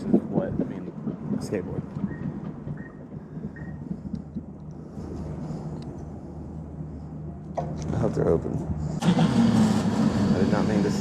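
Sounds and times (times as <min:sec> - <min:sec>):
electric bike hum and road rumble: 0:00.0 - 0:11.0.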